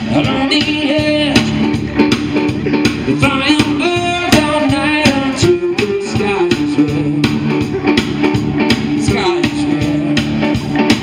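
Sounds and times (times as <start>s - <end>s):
electric guitar lead: 0.0s - 11.0s
live blues band: 0.0s - 11.0s.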